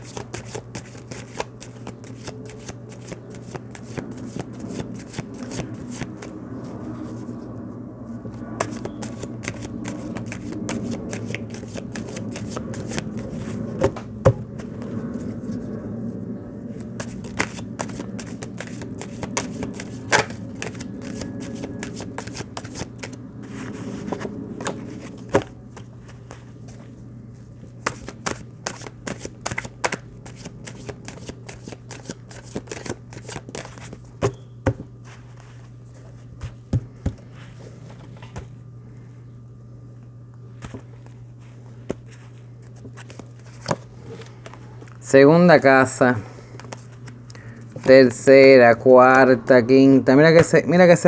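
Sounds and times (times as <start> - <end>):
cards being shuffled: 0.0 - 7.4, 8.2 - 15.8, 16.7 - 38.6, 40.5 - 45.0, 46.5 - 48.1
steady low hum: 0.0 - 51.0.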